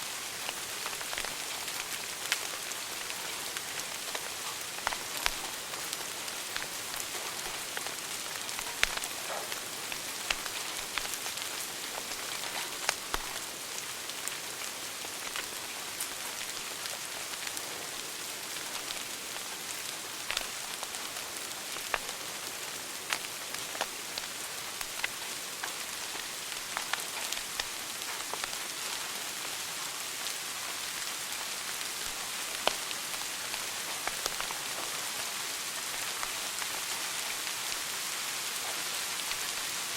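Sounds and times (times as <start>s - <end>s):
wood fire crackling: 0.0s - 39.8s
fire snaps: 0.3s - 29.6s, 30.8s - 38.2s.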